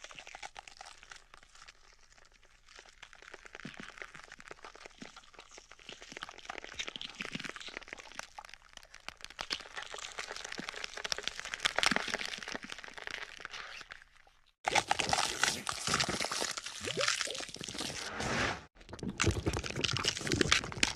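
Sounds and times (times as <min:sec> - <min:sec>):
crackling and crunching: 0:00.0 - 0:20.9.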